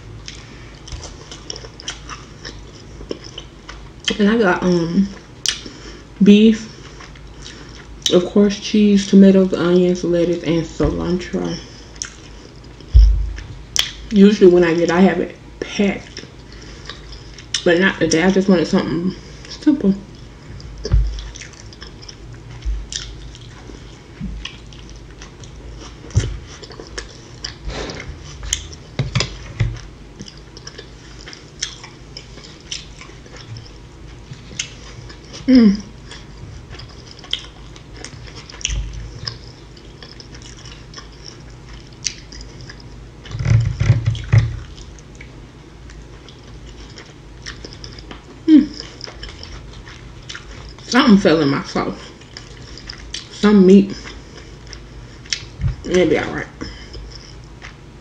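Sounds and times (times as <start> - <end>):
chewing and crunching food: 0.1 - 58.0.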